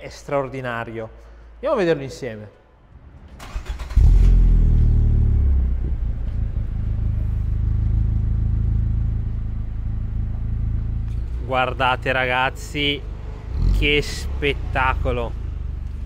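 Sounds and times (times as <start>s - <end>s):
car engine starting and idling: 2.9s - 16.0s.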